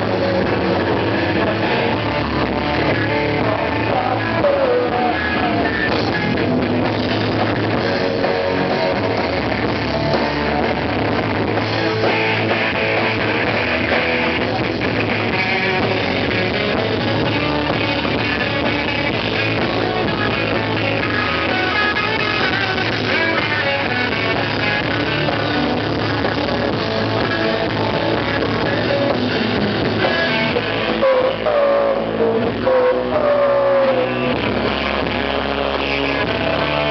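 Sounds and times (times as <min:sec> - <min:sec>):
drum kit: 0:00.0 - 0:36.9
electric guitar: 0:00.0 - 0:36.9.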